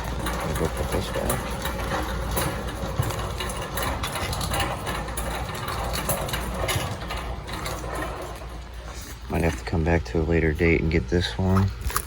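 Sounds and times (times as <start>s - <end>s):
rattling and clicking: 0.0s - 12.0s
steady low hum: 0.0s - 12.0s.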